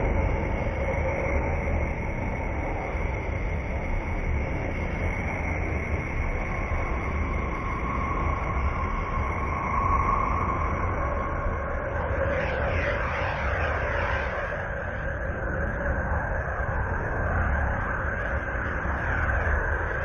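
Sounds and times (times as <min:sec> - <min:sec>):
faint steady tones: 0:00.0 - 0:20.0.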